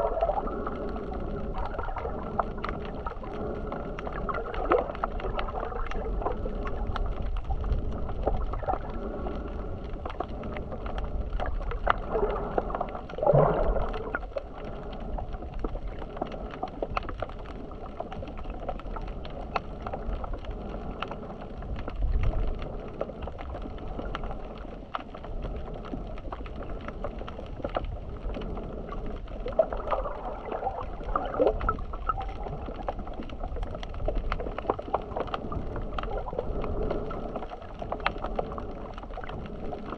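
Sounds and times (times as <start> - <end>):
low rumble: 0.0 - 39.9
muffled water sloshing and gurgling: 0.0 - 39.9
small scattered clicks: 0.1 - 39.9.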